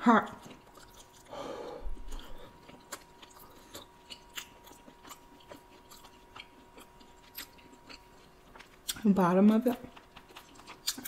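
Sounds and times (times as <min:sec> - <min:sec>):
chewing with mouth clicks: 0:00.3 - 0:11.0.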